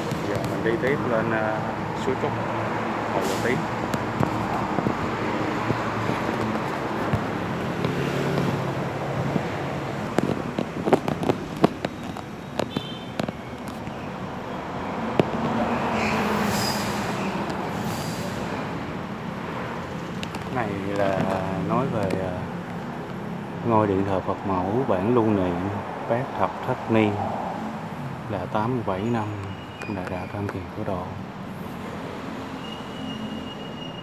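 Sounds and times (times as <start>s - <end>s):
vehicle passing: 0.0s - 29.0s
vehicle engine humming: 0.0s - 34.0s.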